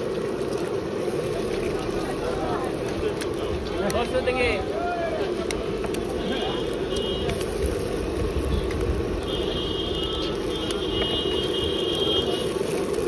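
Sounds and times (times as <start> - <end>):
roadside traffic rumble: 0.0 - 13.0.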